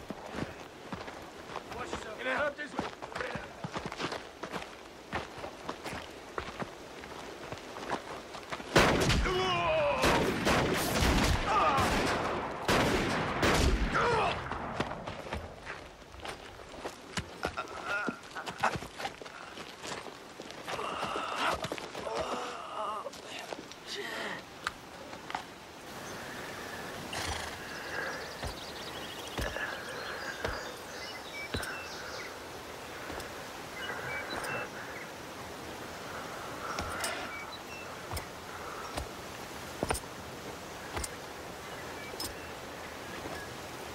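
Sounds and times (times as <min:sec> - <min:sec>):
heavy steps on dirt: 0:00.0 - 0:09.6, 0:14.0 - 0:43.9.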